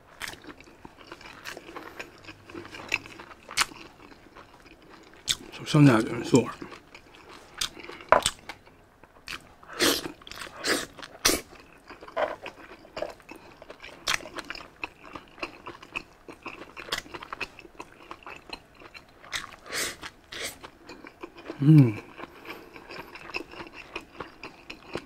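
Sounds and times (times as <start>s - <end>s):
person chewing food: 0.0s - 5.6s, 6.4s - 25.0s.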